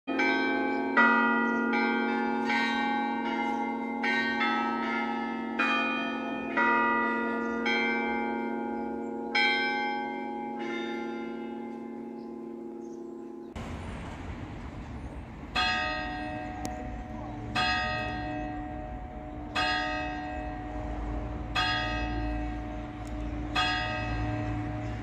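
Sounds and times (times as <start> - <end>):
church bells ringing: 0.1 - 25.0.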